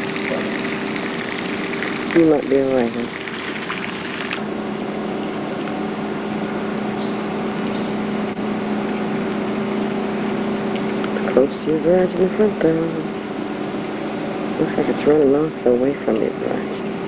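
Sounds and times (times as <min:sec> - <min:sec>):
small engine humming: 0:00.0 - 0:17.0
steady hiss: 0:00.0 - 0:17.0.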